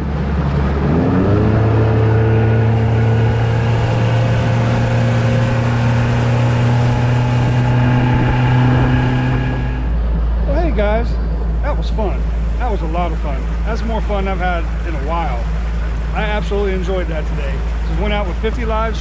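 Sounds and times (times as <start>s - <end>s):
rushing water: 0.0s - 10.0s, 11.6s - 19.0s
outboard motor running: 0.0s - 19.0s
wind: 0.0s - 19.0s.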